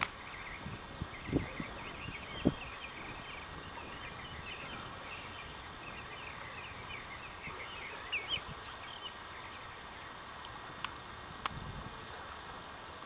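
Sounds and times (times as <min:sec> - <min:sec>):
birds chirping and twittering: 0:00.0 - 0:10.5
faint steady hiss: 0:00.0 - 0:13.0.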